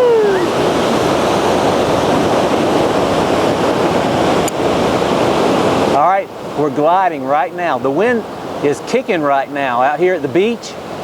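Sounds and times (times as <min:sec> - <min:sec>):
ocean surf: 0:00.0 - 0:11.0
strong wind: 0:00.0 - 0:11.0.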